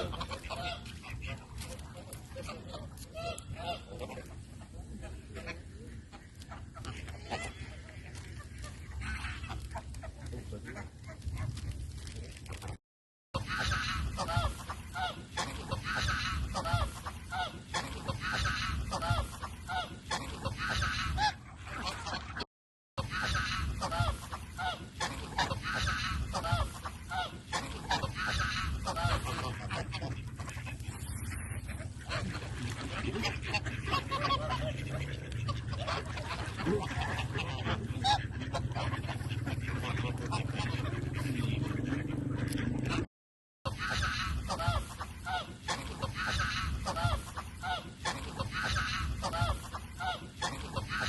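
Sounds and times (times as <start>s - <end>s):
waterfowl calling: 0.0s - 12.6s, 13.4s - 22.4s, 23.0s - 43.1s, 43.7s - 51.0s.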